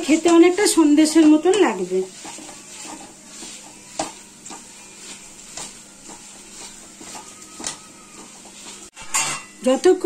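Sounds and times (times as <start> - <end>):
mixture sizzling in metal pan: 0.0 - 10.0
spatula scraping pan: 0.0 - 10.0.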